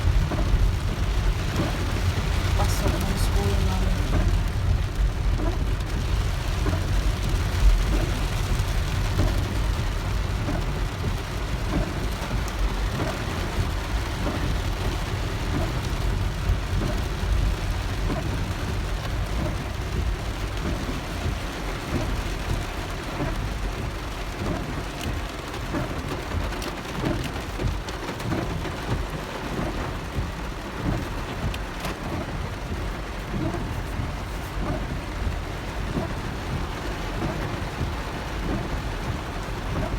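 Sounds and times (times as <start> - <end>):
heavy rain pattering on car roof: 0.0 - 39.9
low rumble of driving car: 0.0 - 39.9.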